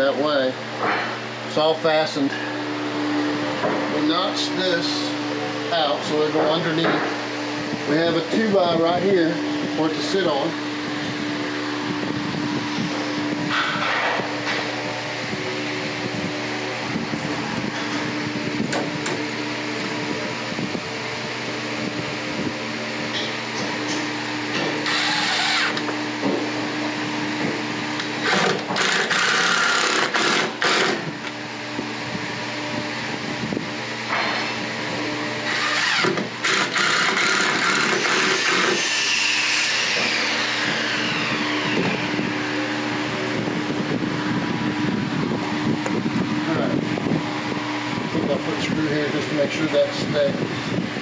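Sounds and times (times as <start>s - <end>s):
machine humming: 0.0s - 51.0s
power tool whine: 2.4s - 51.0s.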